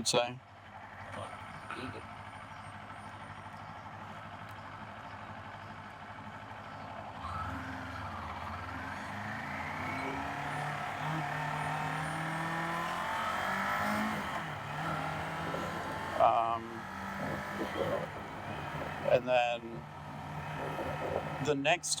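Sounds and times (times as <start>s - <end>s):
motorcycle engine accelerating: 0.8s - 21.9s.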